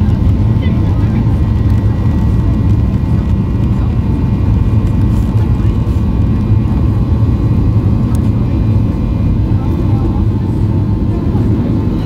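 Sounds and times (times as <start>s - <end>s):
aircraft cabin low rumble: 0.0s - 12.0s
faint jet engine whine: 0.0s - 12.0s.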